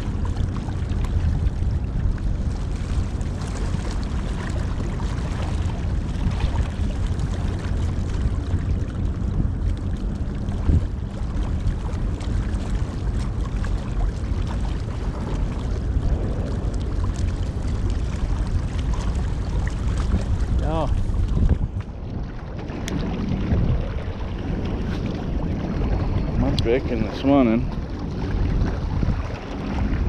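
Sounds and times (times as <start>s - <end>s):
water lapping against rocks: 0.0s - 30.0s
wind rumbling on microphone: 0.0s - 30.0s.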